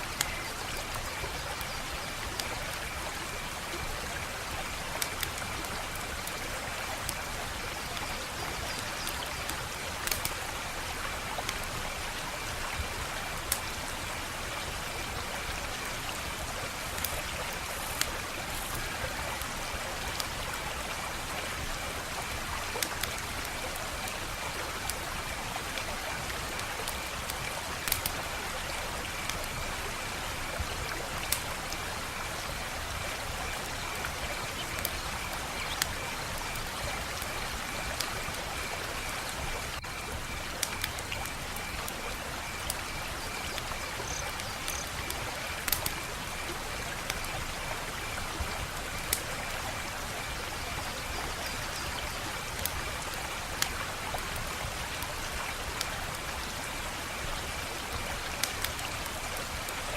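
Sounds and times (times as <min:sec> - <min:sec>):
wood fire crackling: 0:00.2 - 0:48.0, 0:52.4 - 0:52.8.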